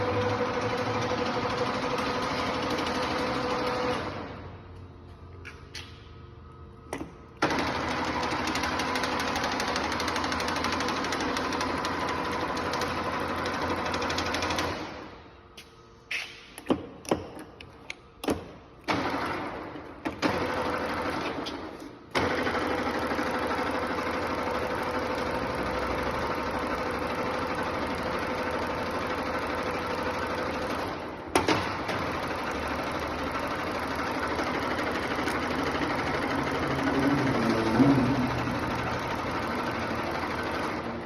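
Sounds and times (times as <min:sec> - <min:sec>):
lathe starting and winding down: 0:00.0 - 0:04.4, 0:07.4 - 0:15.1, 0:18.9 - 0:41.0
lathe drive running steadily: 0:00.0 - 0:15.6, 0:17.8 - 0:41.0.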